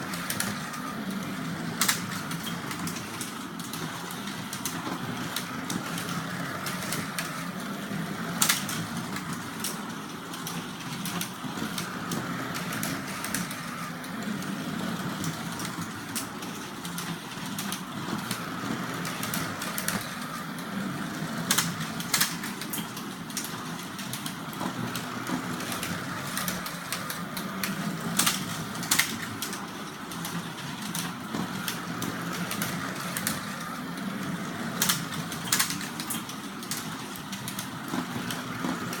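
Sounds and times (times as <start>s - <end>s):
slot car motors whining: 0.0s - 39.0s.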